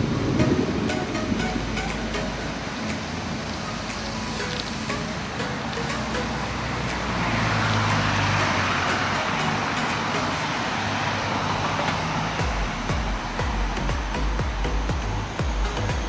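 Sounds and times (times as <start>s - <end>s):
vehicle passing by: 0.0s - 15.4s
road traffic hiss: 0.0s - 16.0s.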